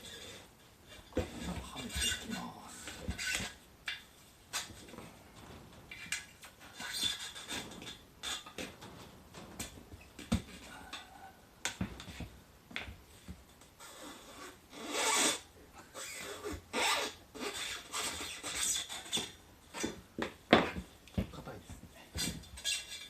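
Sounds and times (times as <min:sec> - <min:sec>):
rubber tyre scraping against rim: 0:00.0 - 0:12.4, 0:13.1 - 0:20.9, 0:22.2 - 0:23.0.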